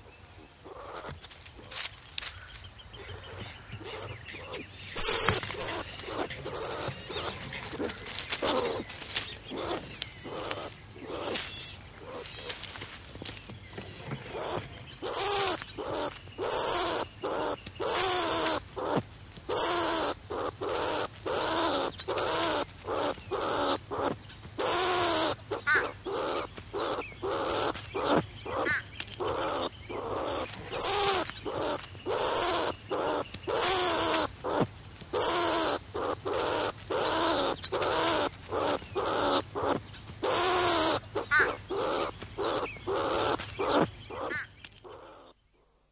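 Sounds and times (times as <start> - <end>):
skunk harsh raspy calls: 0.6 - 1.8, 2.5 - 12.7, 14.1 - 45.4.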